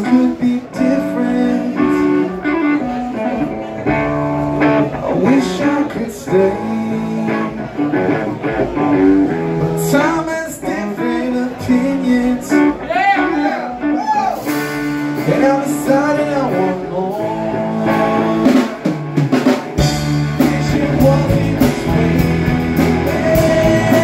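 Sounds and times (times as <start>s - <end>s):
live blues-rock band playing: 0.0s - 24.0s.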